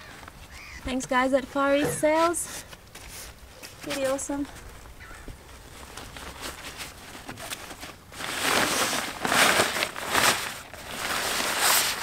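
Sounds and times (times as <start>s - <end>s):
sailcloth and bag rustling: 0.0s - 4.7s, 5.5s - 12.0s.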